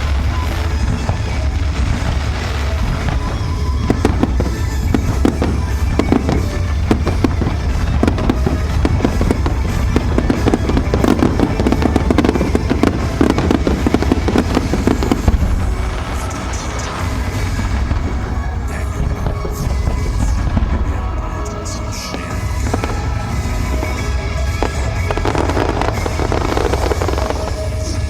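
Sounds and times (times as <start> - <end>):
background music: 0.0 - 28.0
fireworks crackling: 0.0 - 28.0.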